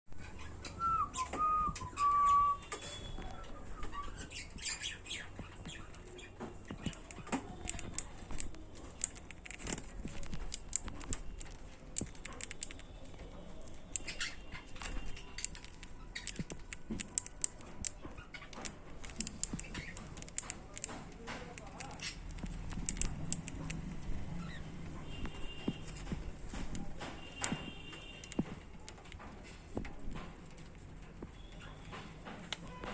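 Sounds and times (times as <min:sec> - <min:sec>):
budgerigars chirping and clicking: 0:02.0 - 0:32.0.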